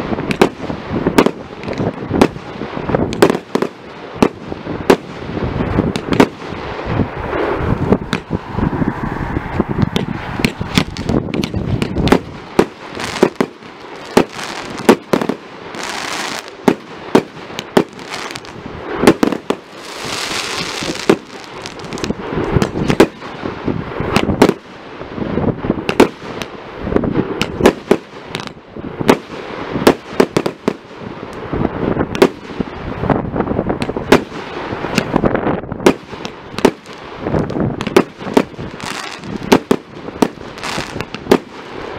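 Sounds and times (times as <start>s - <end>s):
continuous rumble: 0.0s - 41.9s
fireworks bursting: 0.0s - 41.9s.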